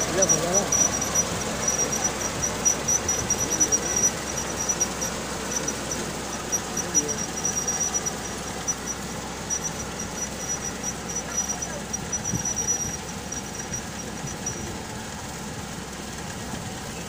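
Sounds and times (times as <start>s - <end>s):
combine harvester running: 0.0s - 17.0s
high mechanical whine: 0.0s - 17.0s.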